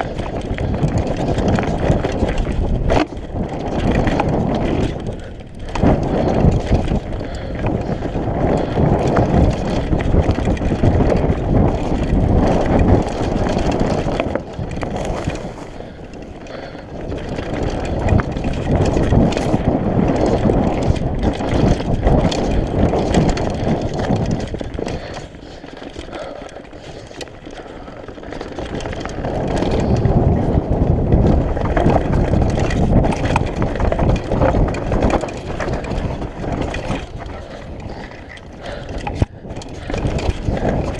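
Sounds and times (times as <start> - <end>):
bike rattling and knocking: 0.0 - 40.9
tyre and wind rush: 0.0 - 40.9.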